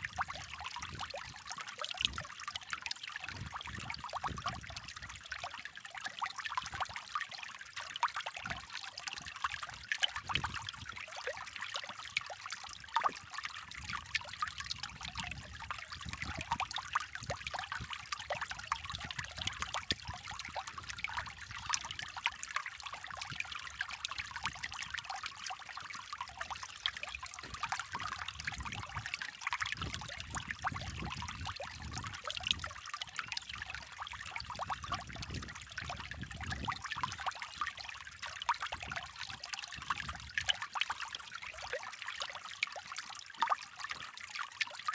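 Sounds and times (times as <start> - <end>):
creek water babbling over stones: 0.0 - 44.9.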